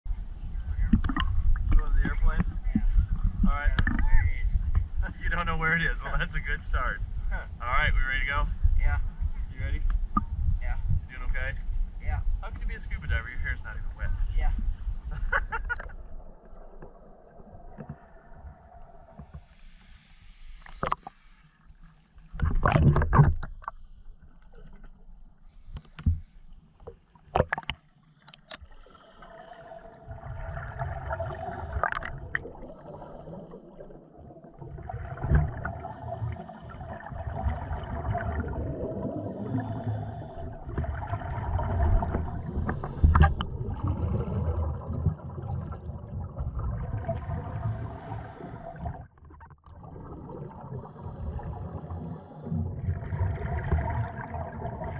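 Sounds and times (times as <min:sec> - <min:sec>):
underwater exhaust bubbles: 0:00.2 - 0:11.1, 0:15.6 - 0:54.9.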